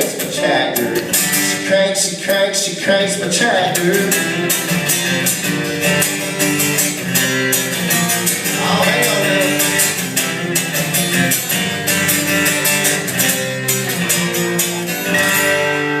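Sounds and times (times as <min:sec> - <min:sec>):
country band playing live: 0:00.0 - 0:16.0
guitars strummed: 0:00.0 - 0:16.0.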